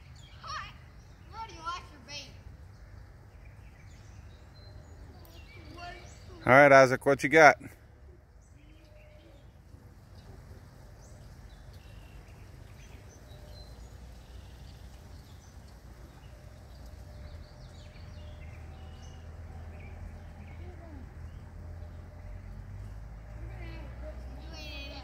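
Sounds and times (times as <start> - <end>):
bird chirps: 0.0 - 6.6, 8.2 - 23.4.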